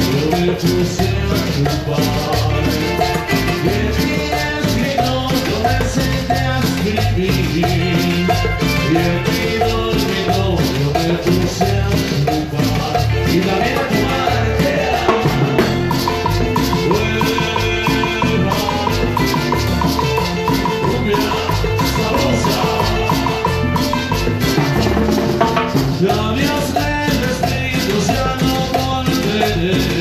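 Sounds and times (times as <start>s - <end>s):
latin dance music: 0.0s - 30.0s
shaker rattling: 0.0s - 30.0s.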